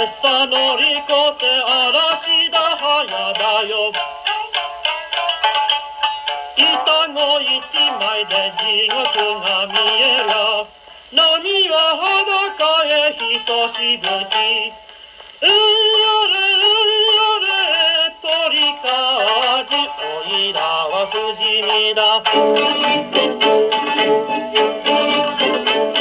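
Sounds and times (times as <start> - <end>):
gramophone record playing song: 0.0 - 26.0.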